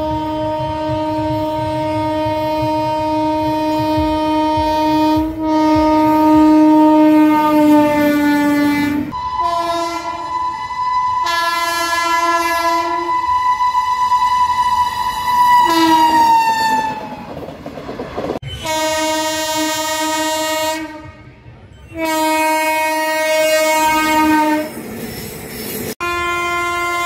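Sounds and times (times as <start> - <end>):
locomotive air horn: 0.0 - 17.0, 18.4 - 24.8, 26.0 - 27.0
rail rumble: 0.0 - 27.0.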